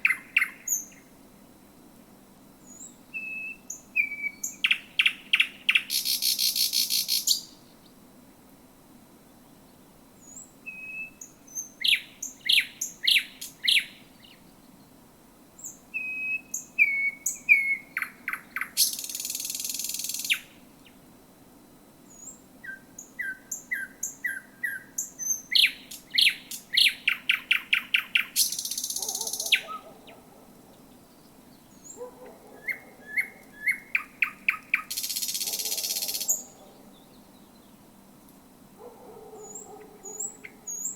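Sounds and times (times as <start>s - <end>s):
thrush nightingale singing: 0.0s - 1.2s, 2.6s - 8.0s, 9.3s - 15.0s, 15.6s - 21.0s, 22.1s - 38.0s, 38.8s - 40.9s.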